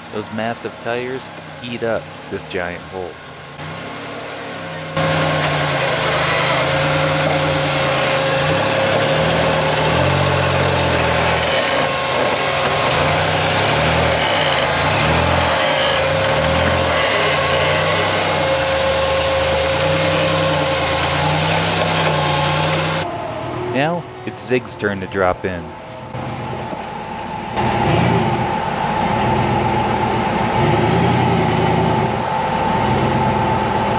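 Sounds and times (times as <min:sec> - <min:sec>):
buggy engine revving: 0:00.0 - 0:24.3, 0:27.6 - 0:33.9.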